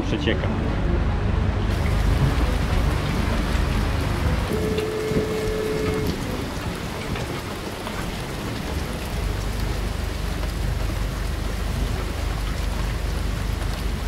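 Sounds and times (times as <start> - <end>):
low rumble: 0.0 - 14.0
steady rain: 0.0 - 14.0.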